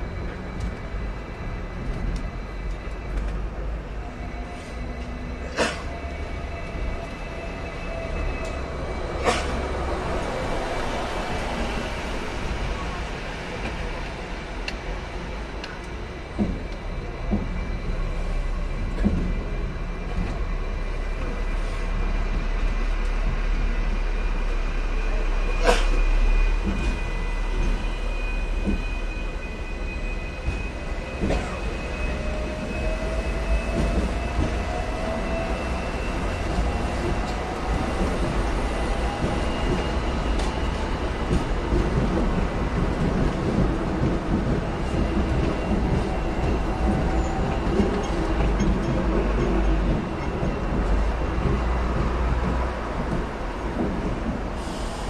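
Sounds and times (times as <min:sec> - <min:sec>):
tram rumbling along track: 0:00.0 - 0:55.0.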